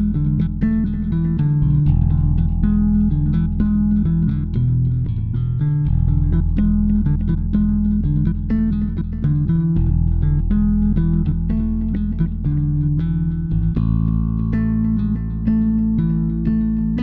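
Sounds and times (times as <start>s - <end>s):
bass guitar line: 0.0s - 17.0s
plucked guitar: 0.0s - 17.0s.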